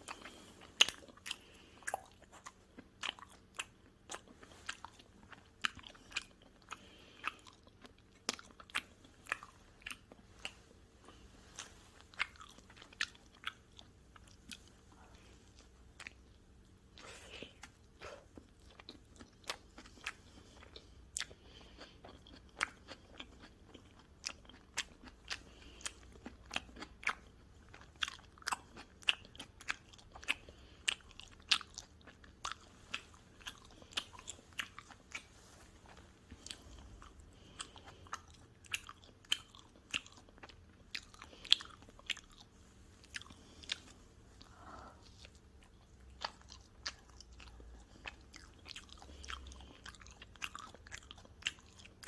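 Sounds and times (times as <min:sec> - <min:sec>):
pizza being chewed with crunches: 0:00.0 - 0:52.0.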